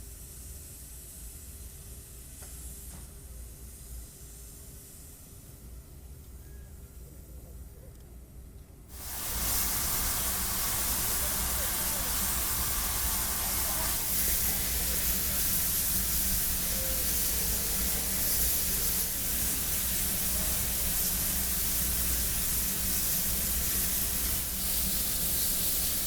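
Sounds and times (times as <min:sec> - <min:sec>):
steam hissing: 0:00.0 - 0:05.6, 0:08.9 - 0:26.0.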